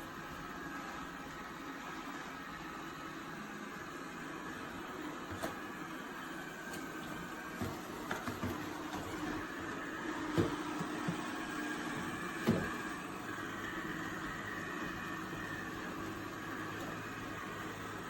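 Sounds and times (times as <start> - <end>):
robot vacuum humming: 0.0 - 18.0.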